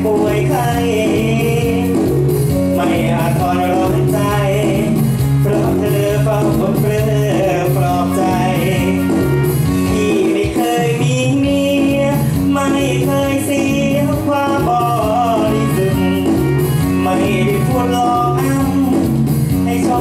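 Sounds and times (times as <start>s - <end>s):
backing music with steady beat: 0.0s - 20.0s
man singing: 0.0s - 20.0s.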